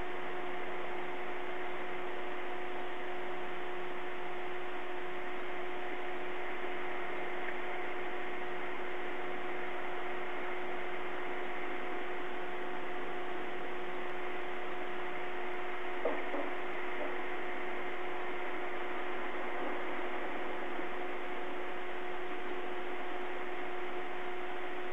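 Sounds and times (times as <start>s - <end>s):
electrical hum: 0.0s - 24.9s.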